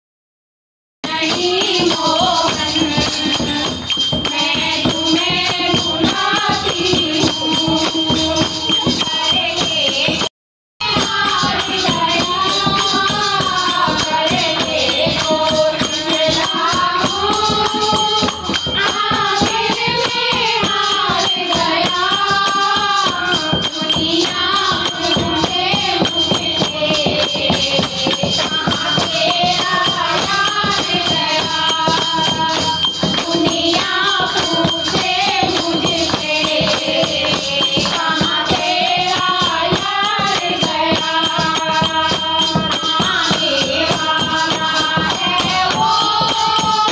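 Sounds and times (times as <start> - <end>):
dholak drum beating: 1.0 - 46.9
jingling hand percussion: 1.0 - 46.9
women singing as a group: 1.0 - 46.9.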